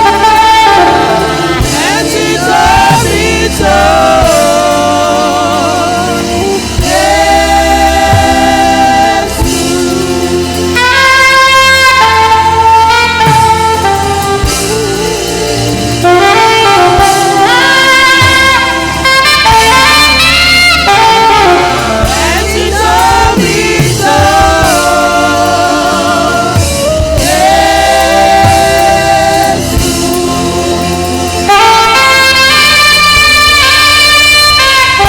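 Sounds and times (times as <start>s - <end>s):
saxophone melody: 0.0s - 35.0s
steady bass accompaniment: 0.0s - 35.0s.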